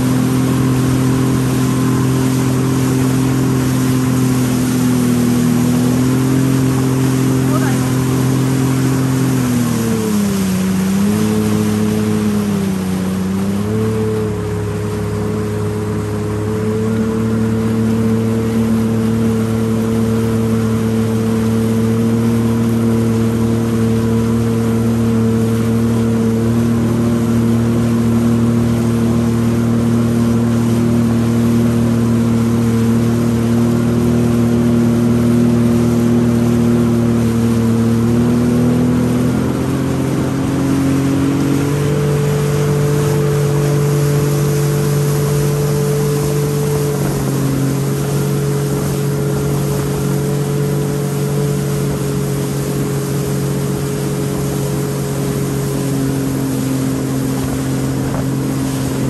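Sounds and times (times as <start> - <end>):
jet ski engine drone: 0.0 - 59.0
rushing water noise: 0.0 - 59.0.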